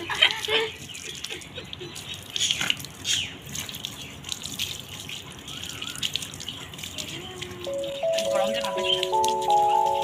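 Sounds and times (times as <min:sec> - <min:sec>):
water dripping and sloshing: 0:00.0 - 0:10.0.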